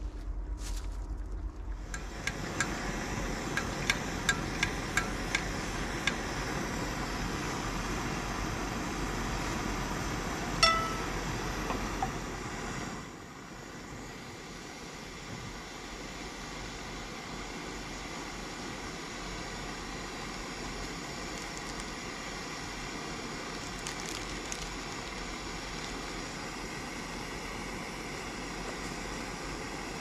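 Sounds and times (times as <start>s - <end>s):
steady hiss: 1.8s - 30.0s.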